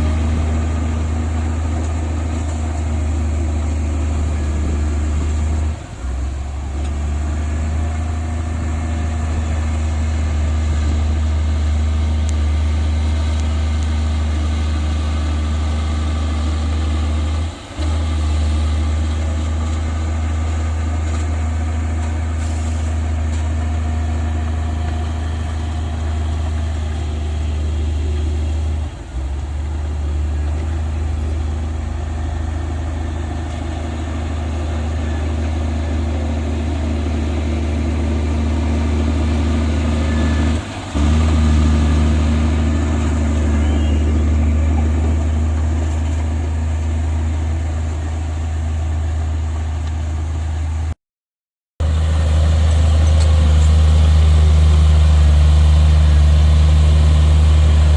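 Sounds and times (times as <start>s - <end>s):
heavy diesel engine humming: 0.0s - 51.0s, 51.8s - 57.9s.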